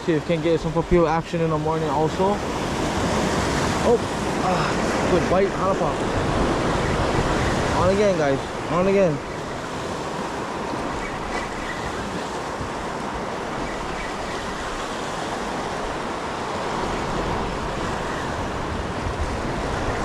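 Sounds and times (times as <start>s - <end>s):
ocean surf washing on shore: 0.0s - 20.0s.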